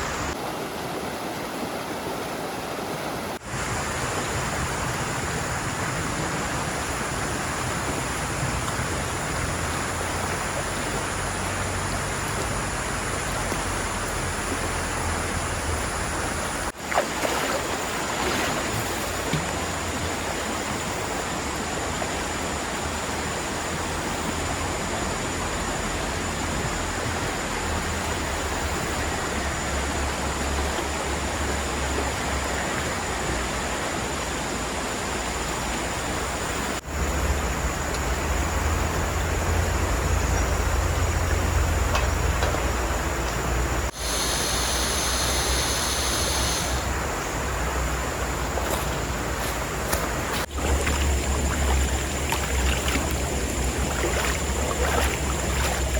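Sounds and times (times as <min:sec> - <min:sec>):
flowing river water: 0:00.0 - 0:55.9.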